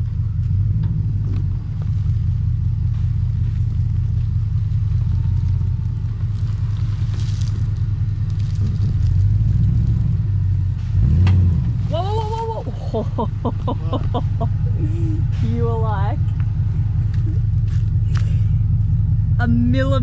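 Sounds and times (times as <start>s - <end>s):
engine low rumble: 0.0s - 20.0s.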